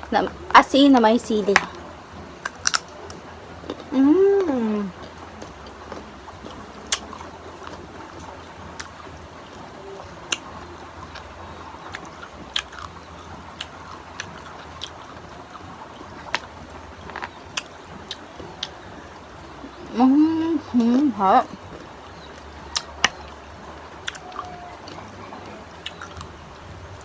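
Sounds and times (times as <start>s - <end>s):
low steady hum: 0.0s - 27.0s
person chewing crunchy fruit: 1.6s - 27.0s.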